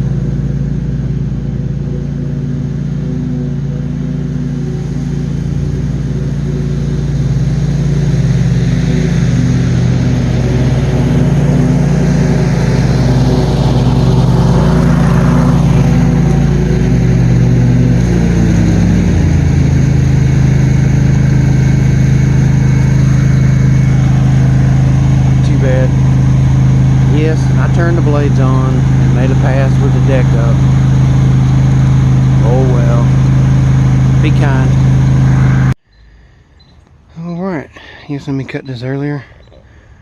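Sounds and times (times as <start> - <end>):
mower engine running: 0.0 - 40.0.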